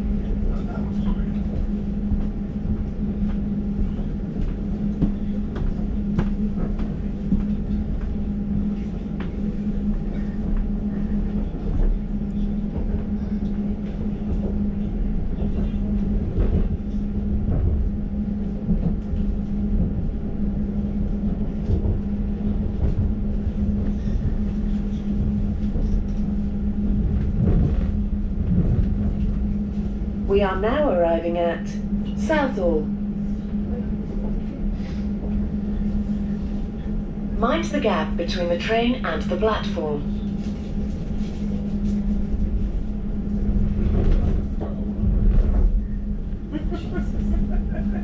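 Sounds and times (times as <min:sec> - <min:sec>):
train cabin low hum: 0:00.0 - 0:48.0
wheels rumbling on rails: 0:00.0 - 0:48.0.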